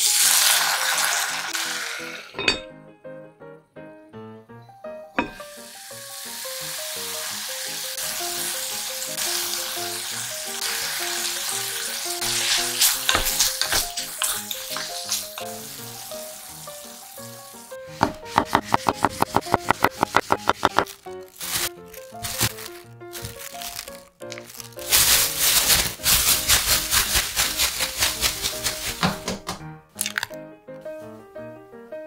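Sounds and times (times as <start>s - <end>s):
food sizzling in a frying pan: 0.0s - 2.4s, 5.3s - 29.0s
light background music: 0.1s - 32.0s.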